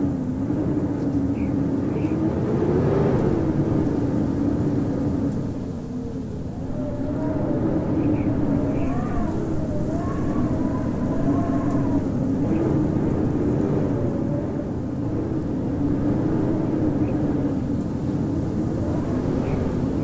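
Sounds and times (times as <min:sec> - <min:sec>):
howling wind with whistling tones: 0:00.0 - 0:20.0.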